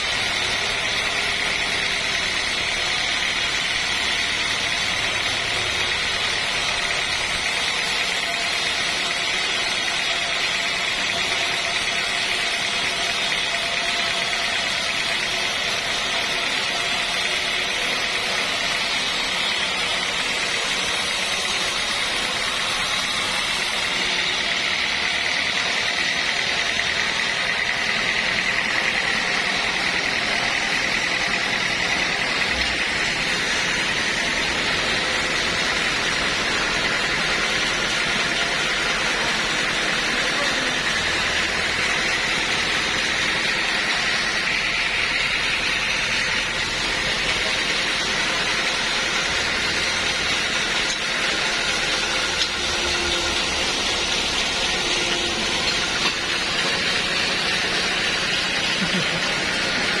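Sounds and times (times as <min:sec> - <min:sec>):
high whine: 0:00.0 - 1:00.0
sawmill machinery drone: 0:00.0 - 1:00.0.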